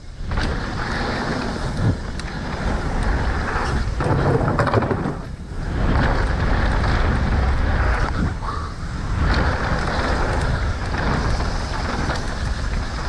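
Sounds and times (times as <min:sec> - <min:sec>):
bike clattering and rattling: 0:00.0 - 0:13.0
tyres rolling over dirt: 0:00.0 - 0:13.0
wind buffeting microphone: 0:00.0 - 0:13.0.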